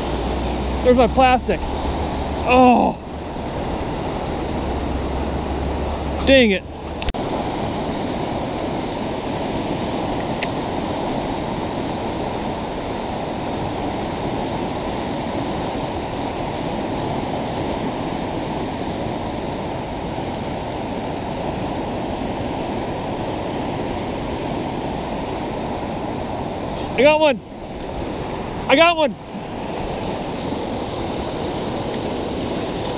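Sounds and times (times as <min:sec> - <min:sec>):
river rushing over rapids: 0:00.0 - 0:32.9.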